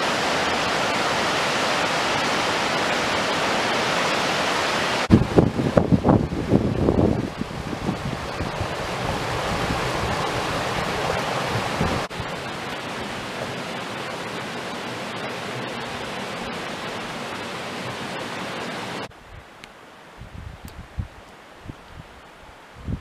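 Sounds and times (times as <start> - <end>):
stream rushing over rocks: 0.0 - 20.2.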